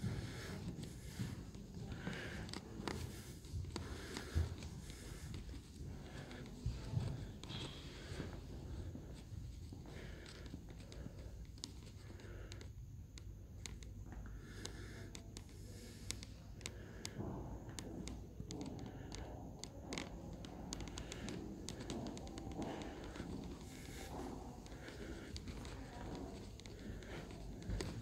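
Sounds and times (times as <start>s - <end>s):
faint footsteps: 0.0s - 28.0s.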